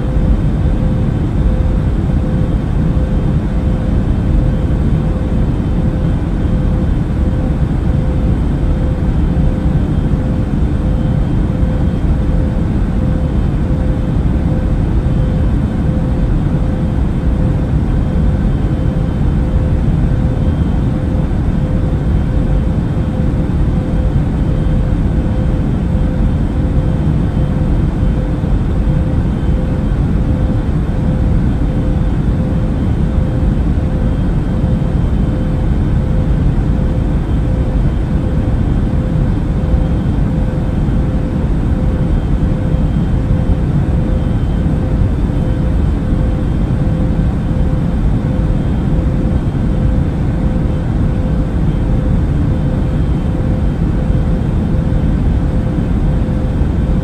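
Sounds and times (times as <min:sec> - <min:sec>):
airplane cabin engine drone: 0:00.0 - 0:57.0
constant hum: 0:00.0 - 0:57.0.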